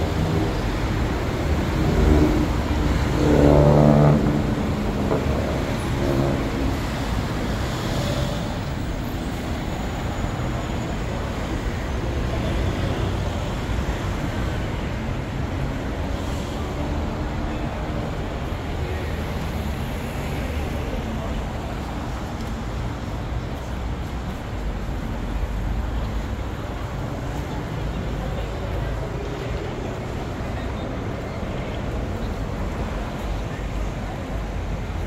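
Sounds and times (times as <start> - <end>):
murmur of people: 0.0 - 35.0
road traffic hum: 0.0 - 35.0.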